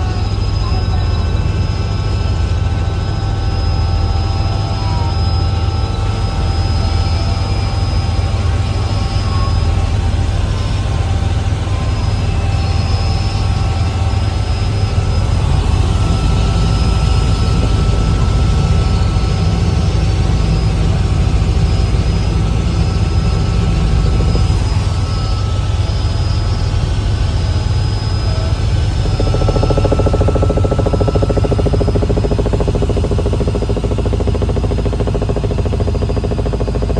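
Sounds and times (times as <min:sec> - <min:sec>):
helicopter rotors rumbling: 0:00.0 - 0:36.9
high-pitched whines: 0:00.0 - 0:36.9.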